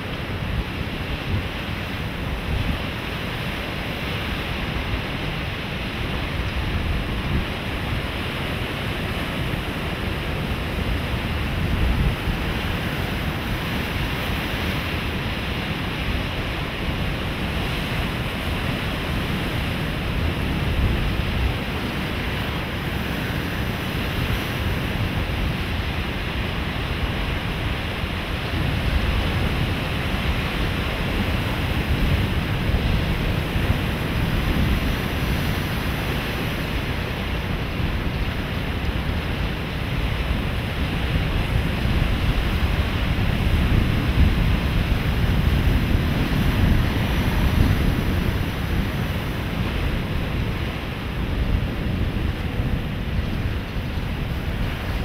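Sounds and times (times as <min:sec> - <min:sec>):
sea surf breaking: 0:00.0 - 0:55.0
wind rumble on microphone: 0:00.0 - 0:55.0.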